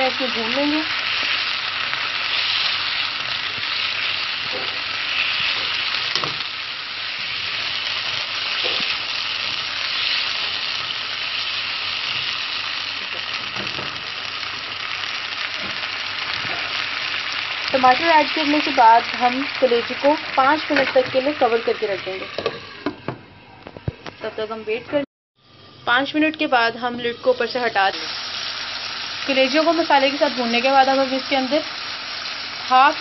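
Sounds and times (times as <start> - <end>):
food sizzling in a pan: 0.0 - 23.2, 25.4 - 33.0.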